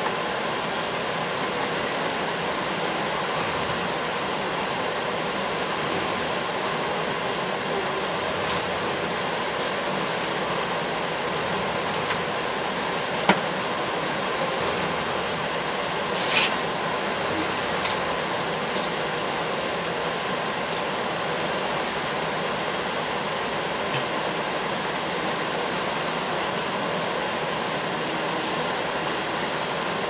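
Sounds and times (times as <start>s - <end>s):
fan noise: 0.0s - 30.0s.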